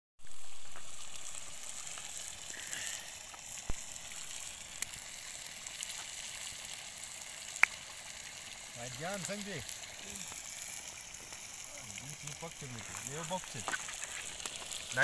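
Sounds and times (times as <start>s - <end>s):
burning wood popping: 0.2s - 15.0s
wood fire hissing: 0.2s - 15.0s.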